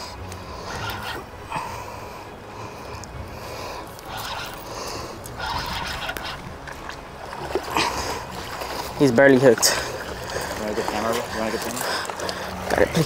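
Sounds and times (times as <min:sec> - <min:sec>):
fishing reel scraping and whirring: 0:00.0 - 0:02.0, 0:02.6 - 0:13.0
wind rumbling on microphone: 0:02.2 - 0:13.0.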